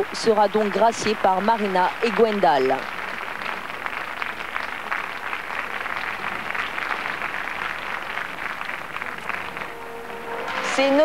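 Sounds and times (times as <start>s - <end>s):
large crowd applauding: 0.0s - 11.0s.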